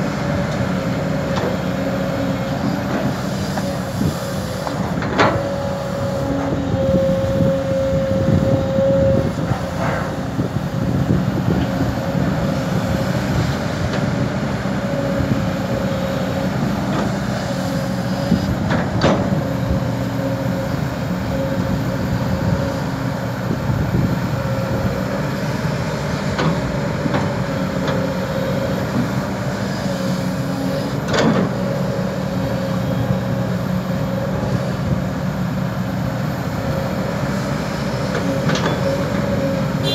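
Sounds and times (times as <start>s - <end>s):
excavator diesel engine: 0.0s - 39.9s
hydraulic whine: 0.0s - 39.9s.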